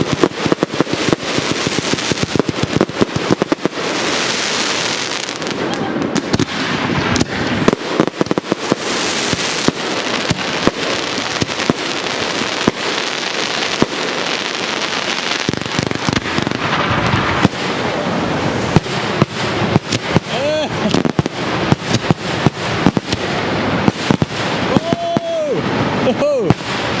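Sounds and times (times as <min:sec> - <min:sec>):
crackling hiss of fireworks: 0:00.0 - 0:27.0
fireworks bangs: 0:00.0 - 0:27.0.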